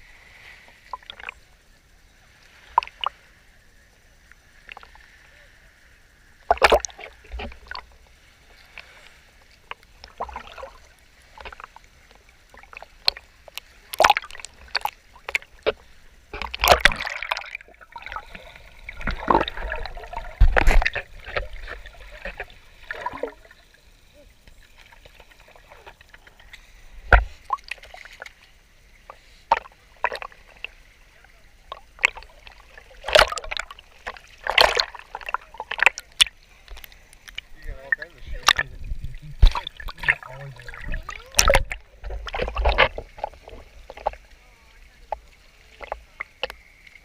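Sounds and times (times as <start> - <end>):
sea water sloshing and splashing: 0.0 - 1.6, 2.2 - 3.4, 4.4 - 47.0.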